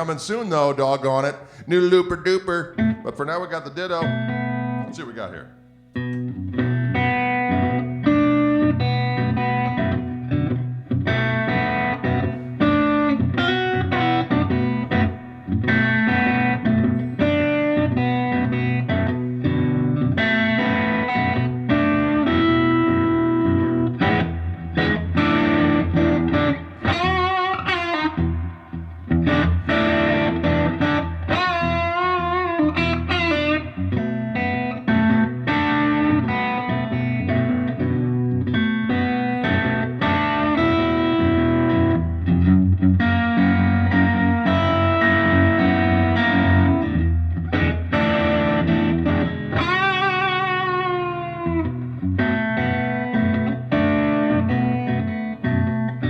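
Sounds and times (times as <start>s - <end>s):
looped blues rhythm guitar: 0.0s - 56.0s
overdriven electric guitar lead: 2.7s - 56.0s.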